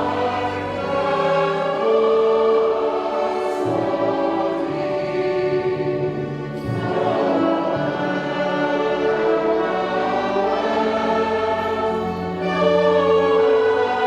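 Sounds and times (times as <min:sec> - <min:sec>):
choir singing sustained chords: 0:00.0 - 0:14.0
orchestral accompaniment: 0:00.0 - 0:14.0.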